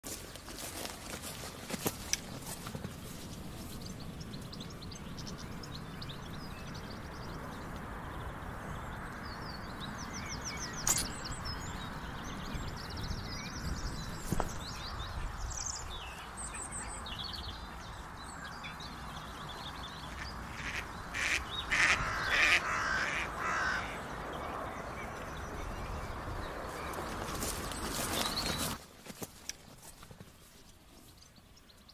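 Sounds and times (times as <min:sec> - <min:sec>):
birds chirping and trilling: 0:01.2 - 0:28.8.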